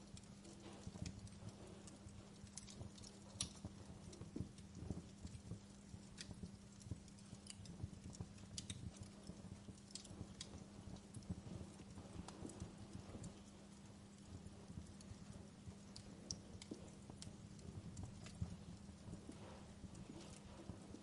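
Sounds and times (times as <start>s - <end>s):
fire low rumble: 0.0s - 21.0s
fire pops and snaps: 0.0s - 21.0s
steady low hum: 0.0s - 21.0s.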